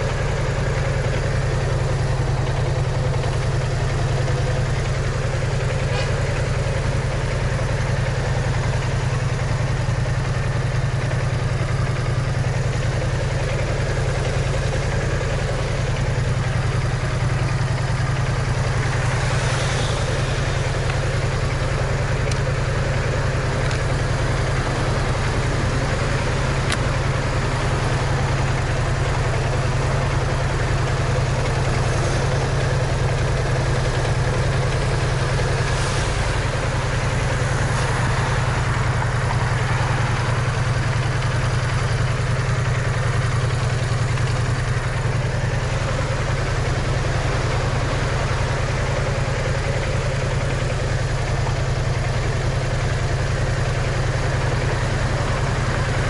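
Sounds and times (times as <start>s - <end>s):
scooter engine idling: 0.0s - 56.0s.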